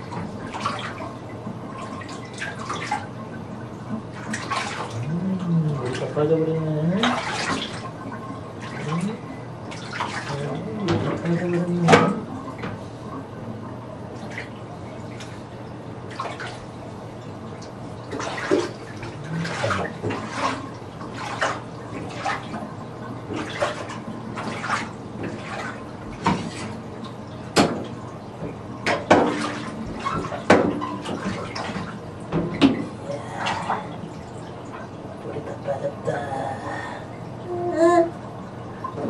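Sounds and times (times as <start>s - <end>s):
water splashing in a bathtub: 0.0s - 39.0s.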